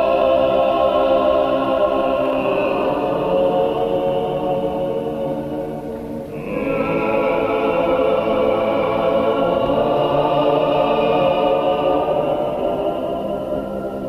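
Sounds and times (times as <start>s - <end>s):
choir singing a slow chant: 0.0s - 14.0s.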